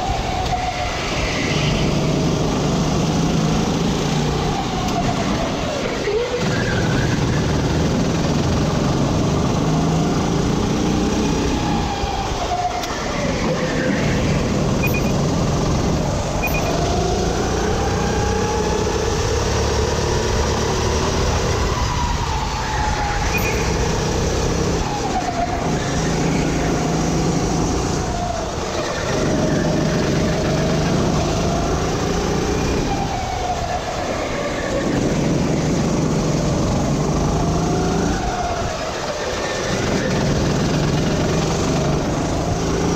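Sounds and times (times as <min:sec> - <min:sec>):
kart engine at racing speed: 0:00.0 - 0:42.9.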